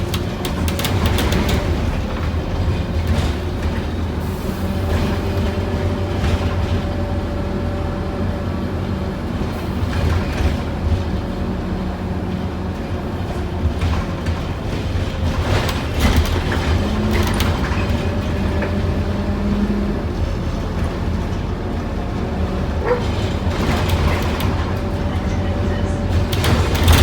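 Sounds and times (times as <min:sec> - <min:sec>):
bus diesel engine rumbling: 0:00.0 - 0:27.0
road noise: 0:00.0 - 0:27.0.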